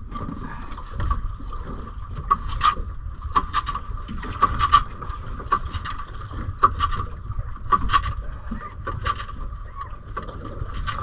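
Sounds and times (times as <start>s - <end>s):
water slapping boat hull: 0.0s - 11.0s.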